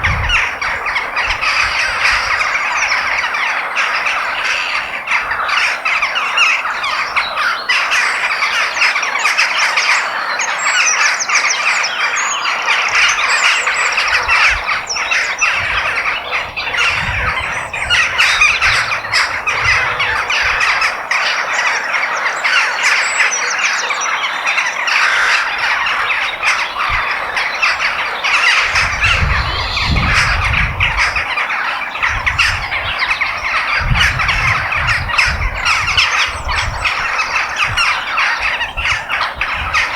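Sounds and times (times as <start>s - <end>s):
many birds calling and squawking: 0.0s - 39.9s.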